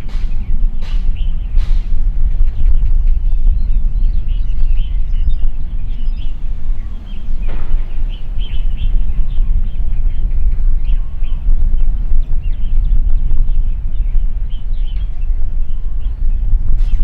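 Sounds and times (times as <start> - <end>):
steady low rumble: 0.0 - 17.0
small birds chirping: 1.2 - 15.3.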